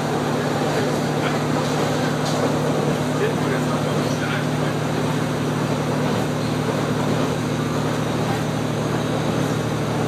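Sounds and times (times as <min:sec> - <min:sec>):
diesel engine drone: 0:00.0 - 0:10.0
wheels rumbling on rails: 0:00.0 - 0:10.0.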